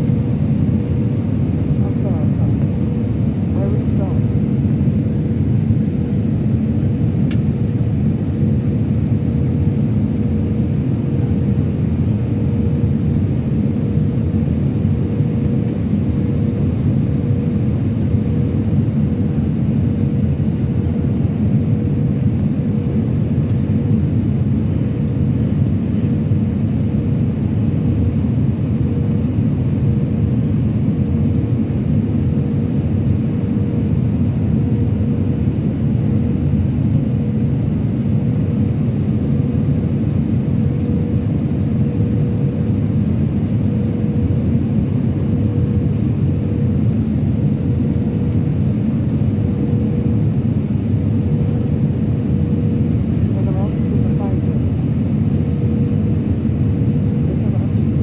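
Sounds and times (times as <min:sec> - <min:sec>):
jet engine and airflow drone: 0:00.0 - 0:58.0.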